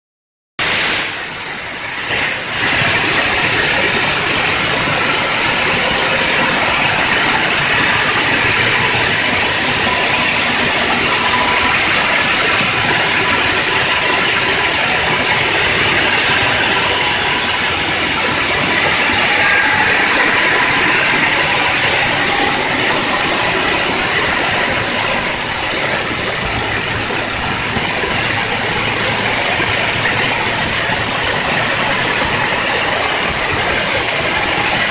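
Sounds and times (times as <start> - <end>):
stone saw grinding hiss: 0.6 - 34.8
saw blade whine: 0.6 - 34.9.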